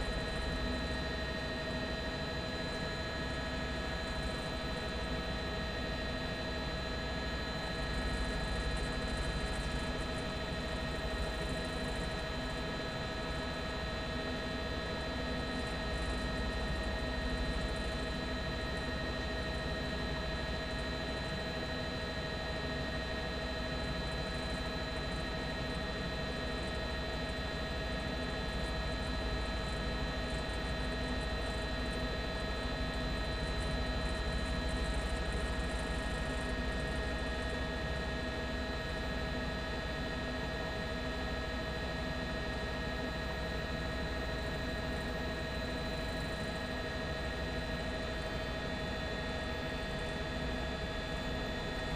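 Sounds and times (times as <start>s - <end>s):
helicopter drone: 0.0s - 51.9s.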